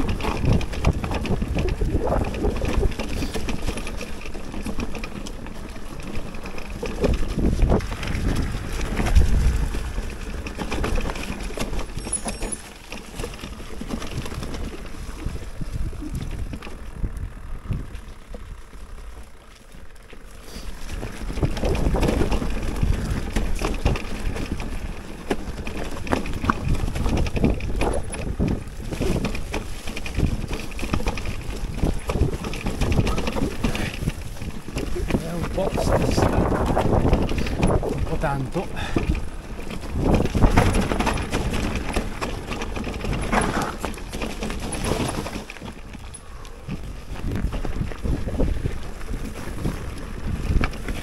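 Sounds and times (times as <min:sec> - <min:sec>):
wind on microphone: 0:00.0 - 0:03.9, 0:06.9 - 0:12.0, 0:14.1 - 0:18.2, 0:20.7 - 0:51.0
bike knocking and rattling: 0:00.0 - 0:51.0
bike tyre and trail noise: 0:00.0 - 0:51.0.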